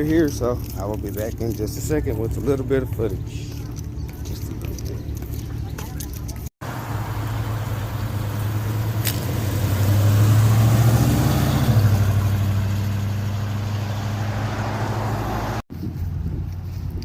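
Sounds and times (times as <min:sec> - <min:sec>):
car engine running: 0:00.0 - 0:15.6.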